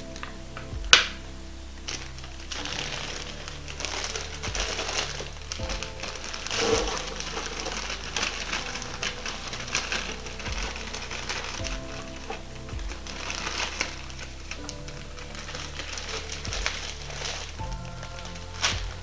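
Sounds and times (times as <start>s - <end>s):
plastic bag crinkling: 0.0s - 19.0s
fries rattling into wire basket: 1.9s - 19.0s.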